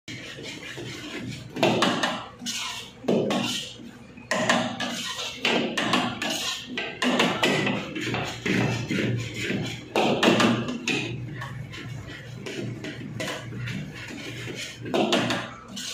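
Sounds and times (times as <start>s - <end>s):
metal ladle scraping in a wok: 0.1s - 15.9s.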